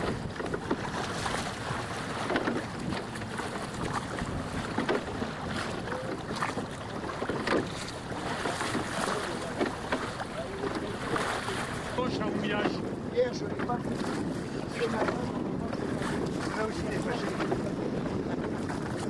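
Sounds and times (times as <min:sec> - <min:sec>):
water rushing along a boat hull: 0:00.0 - 0:19.0
wind buffeting the microphone: 0:00.0 - 0:19.0.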